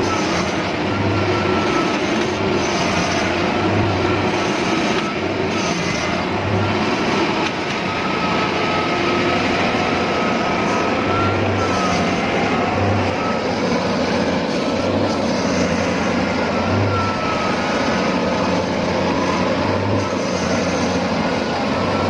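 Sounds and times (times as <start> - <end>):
combine harvester engine running: 0.0 - 22.0.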